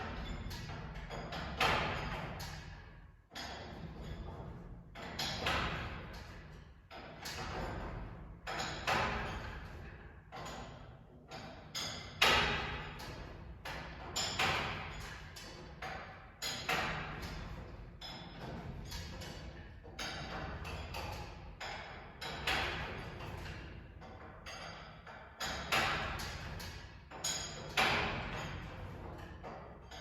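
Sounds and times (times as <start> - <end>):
ringing metallic knocks and bangs: 3.4 - 23.7, 24.5 - 30.0.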